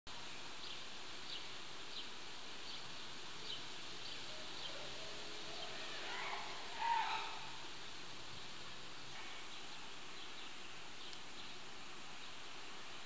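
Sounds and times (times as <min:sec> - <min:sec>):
steady high hiss: 0:00.1 - 0:13.0.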